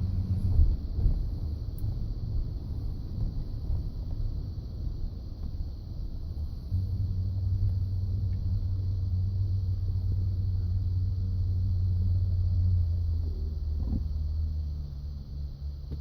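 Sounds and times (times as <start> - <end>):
pickup truck rumbling: 0.0 - 16.0.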